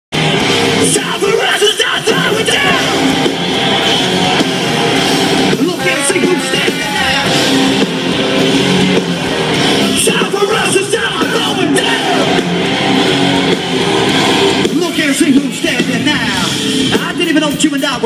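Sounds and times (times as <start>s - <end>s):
electric guitars: 0.1s - 18.0s
live rock band playing: 0.1s - 18.0s.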